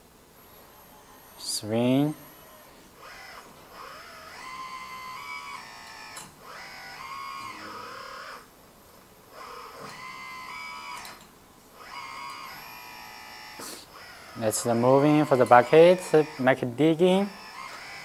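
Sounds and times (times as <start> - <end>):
hydraulic pump whining: 0.6 - 8.5, 9.3 - 18.0.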